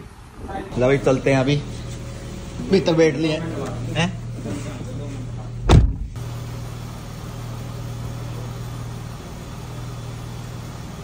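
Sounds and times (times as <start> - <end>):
car engine idling: 0.2 - 11.0.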